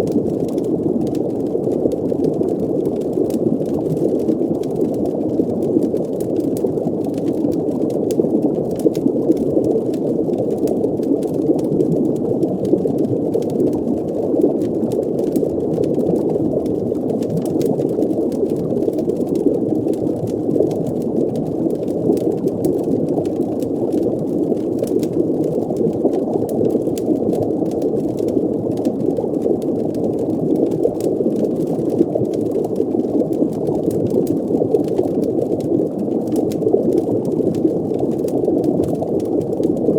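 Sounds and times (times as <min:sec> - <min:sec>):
faint crackles: 0:00.0 - 0:39.9
water bubbling: 0:00.0 - 0:39.9.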